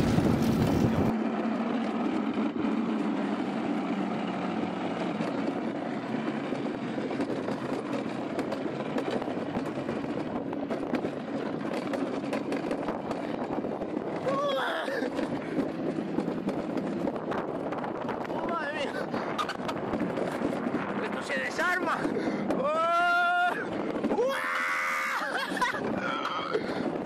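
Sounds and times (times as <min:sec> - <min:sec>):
sled rattling rumble on steel track: 0:00.0 - 0:27.0.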